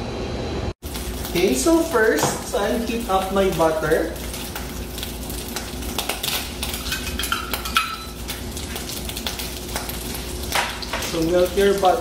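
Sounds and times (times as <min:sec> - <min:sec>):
faint frying hiss: 0:00.8 - 0:12.0.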